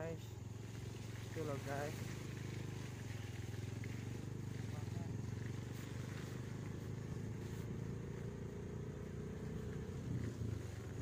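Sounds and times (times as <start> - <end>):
van engine droning: 0.0 - 11.0.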